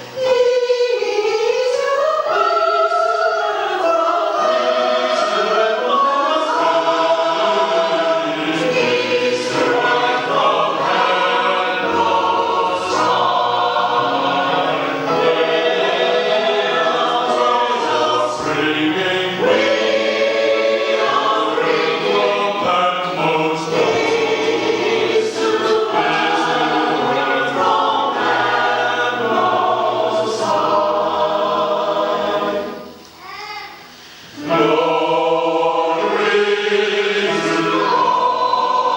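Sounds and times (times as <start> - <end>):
choir singing a carol: 0.0 - 38.9.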